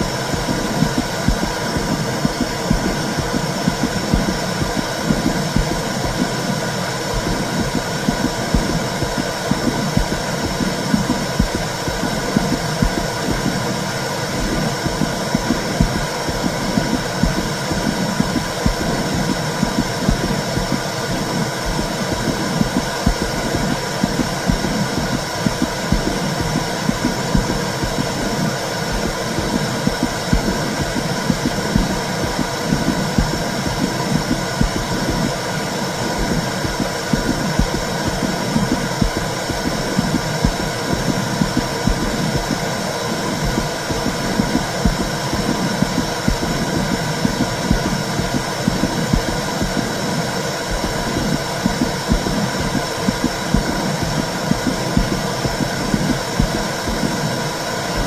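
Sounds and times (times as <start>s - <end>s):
rapid pulsing in the bass: 0.0s - 58.0s.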